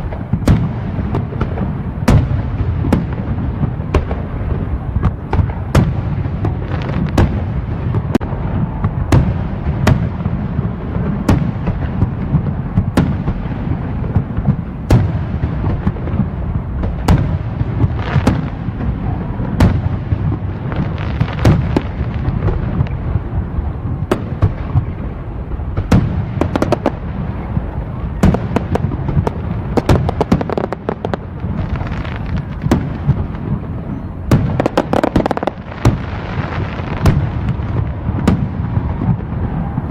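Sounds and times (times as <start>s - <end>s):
fireworks bangs: 0.0s - 39.9s
rapid fireworks crackling: 0.0s - 39.9s.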